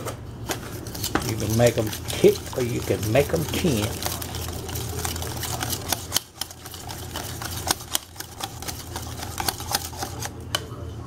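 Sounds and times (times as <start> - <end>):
utensil stirring batter in bowl: 0.5 - 10.8.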